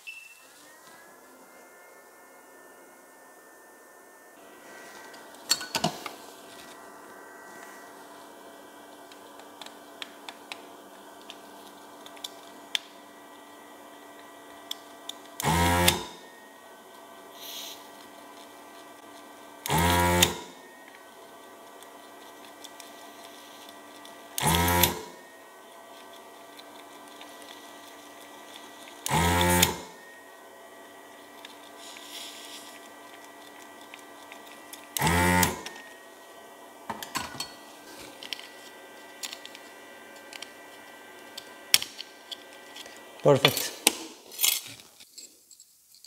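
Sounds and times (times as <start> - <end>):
desoldering pump motor hum: 3.6 - 44.0.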